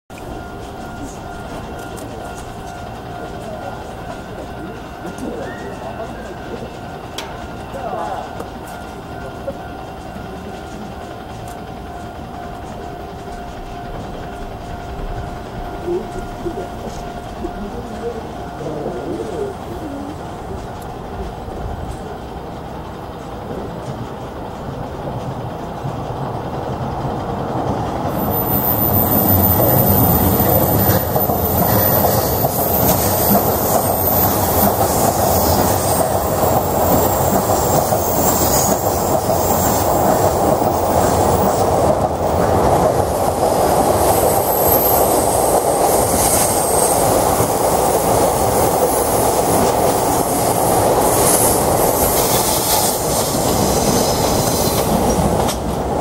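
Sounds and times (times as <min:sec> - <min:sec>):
diesel locomotive passing: 0:00.1 - 0:56.0.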